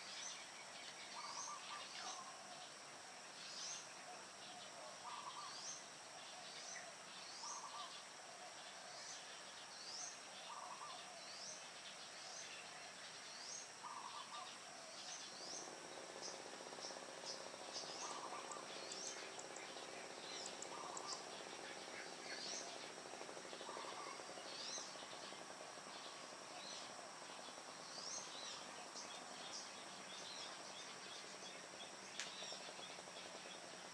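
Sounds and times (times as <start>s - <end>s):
bird chirping: 0.0s - 33.9s
high insect drone: 0.0s - 33.9s
low steady hum: 0.0s - 33.9s.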